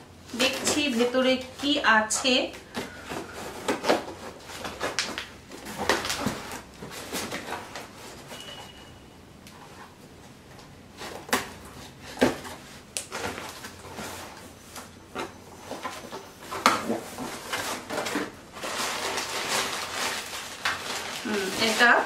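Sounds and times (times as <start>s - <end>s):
plastic wrapping rustling: 0.2s - 9.0s, 9.6s - 22.0s.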